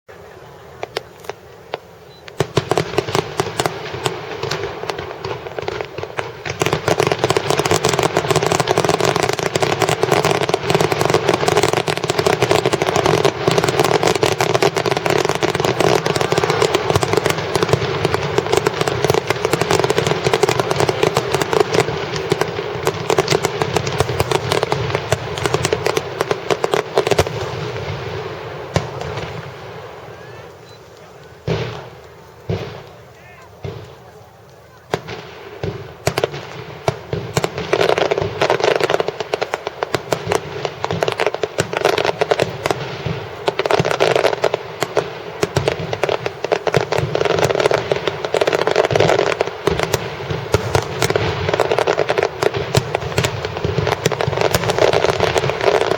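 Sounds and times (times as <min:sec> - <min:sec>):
fireworks crackling: 0:00.1 - 0:55.9.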